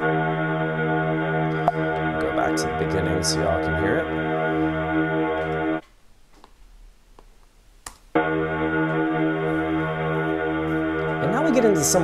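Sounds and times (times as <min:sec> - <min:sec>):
sustained chordal drone: 0:00.0 - 0:05.8, 0:08.2 - 0:12.0.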